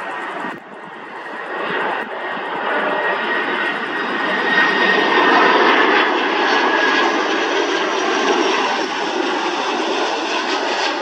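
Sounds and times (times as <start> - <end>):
jet engines on approach: 0.0 - 11.0.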